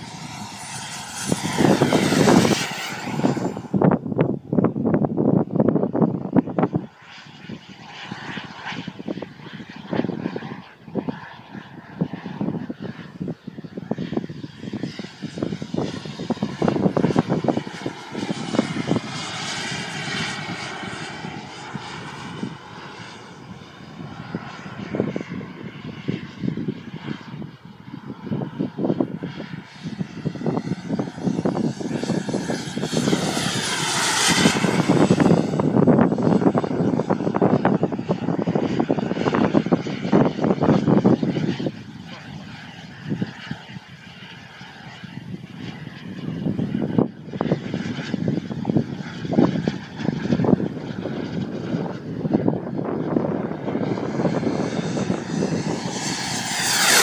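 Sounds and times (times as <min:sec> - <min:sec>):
model jet turbine whine: 0:00.0 - 0:57.0
wind buffeting microphone: 0:00.0 - 0:57.0.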